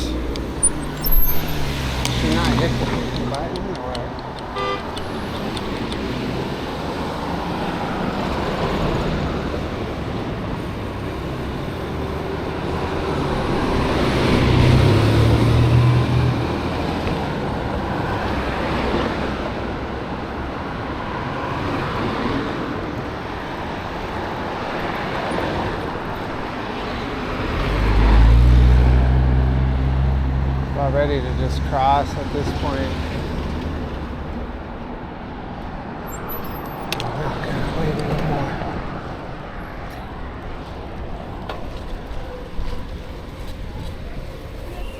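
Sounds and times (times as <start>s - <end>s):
cars driving by: 0.0s - 44.9s.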